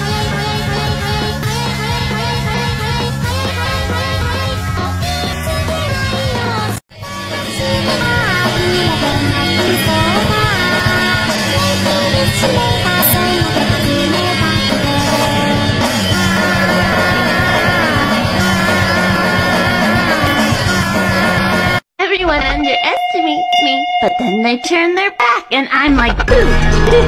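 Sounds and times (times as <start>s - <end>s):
loud rock music: 0.0s - 21.8s.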